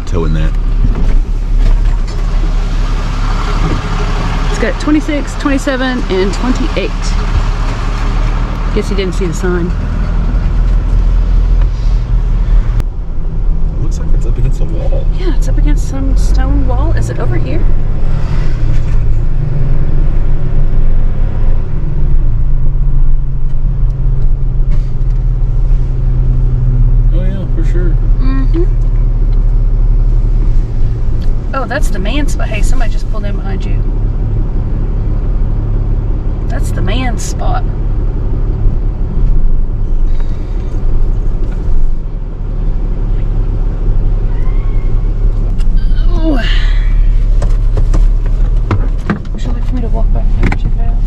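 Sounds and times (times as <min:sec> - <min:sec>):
truck engine humming: 0:00.0 - 0:51.0.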